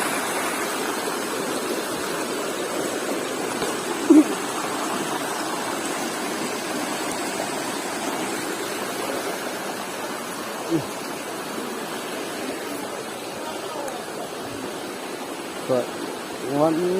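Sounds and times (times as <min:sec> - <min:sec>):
river water rushing: 0:00.0 - 0:16.9.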